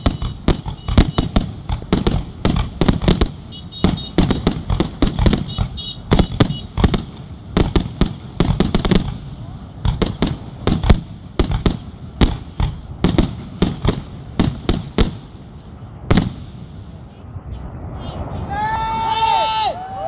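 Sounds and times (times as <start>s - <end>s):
fireworks launching and bursting: 0.0s - 19.4s.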